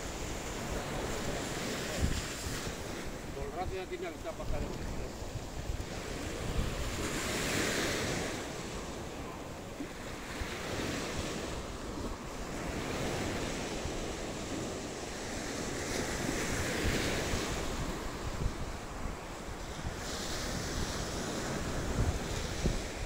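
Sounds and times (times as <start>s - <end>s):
sea waves breaking on sand: 0.0s - 23.0s
wind buffeting microphone: 0.0s - 23.0s.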